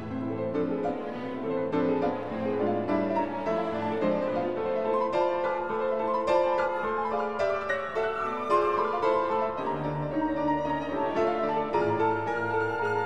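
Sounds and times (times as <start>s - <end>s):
classical piano music: 0.0s - 13.0s.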